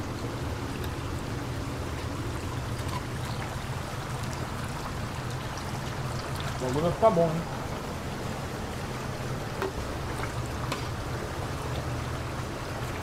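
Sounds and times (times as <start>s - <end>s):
oil sizzling in deep fryer: 0.0s - 13.0s.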